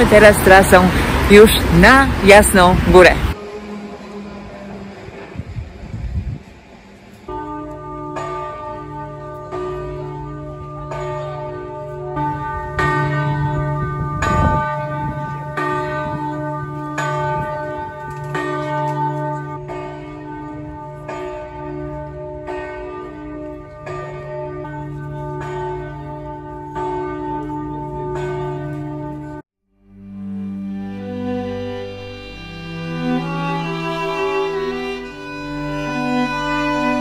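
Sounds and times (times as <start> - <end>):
church bells pealing: 0.0 - 29.4, 30.1 - 37.0.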